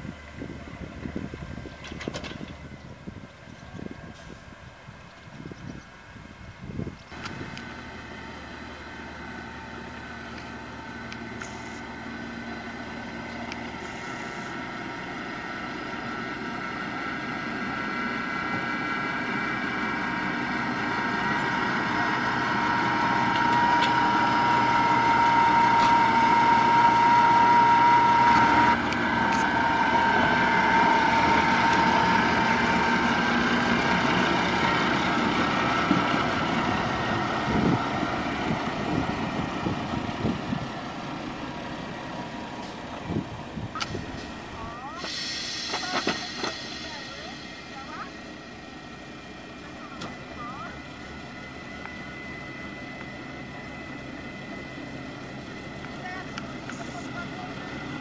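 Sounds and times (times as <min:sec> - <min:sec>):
diesel railcar passing: 0:00.0 - 0:58.0
steady whine: 0:06.0 - 0:58.0.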